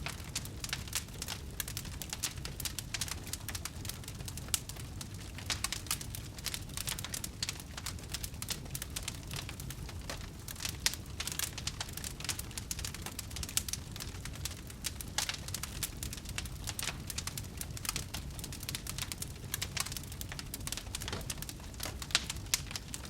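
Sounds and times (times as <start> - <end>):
low fire rumble: 0.0 - 23.0
wood crackling and popping: 0.0 - 23.0.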